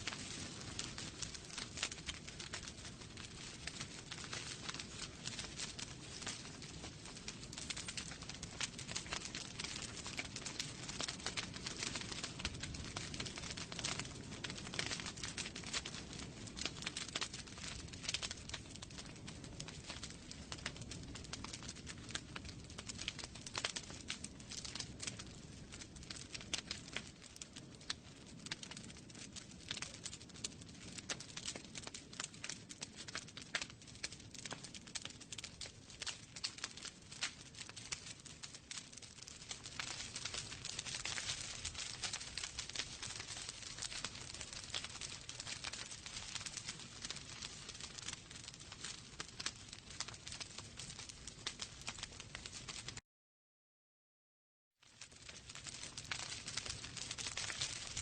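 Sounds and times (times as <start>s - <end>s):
wood fire crackling: 0.0s - 53.0s, 54.8s - 58.0s.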